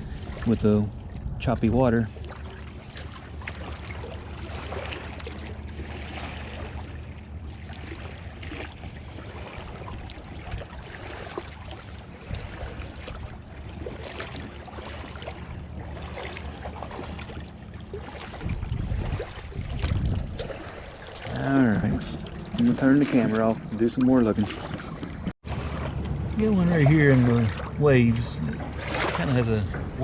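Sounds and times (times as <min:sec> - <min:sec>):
river water lapping and splashing: 0:00.0 - 0:30.0
steady low hum: 0:00.0 - 0:30.0.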